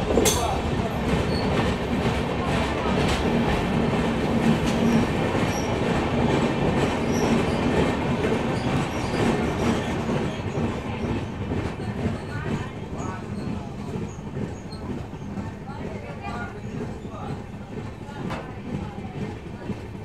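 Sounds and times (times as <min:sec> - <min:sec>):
train wheels rumbling in tunnel: 0:00.0 - 0:20.0.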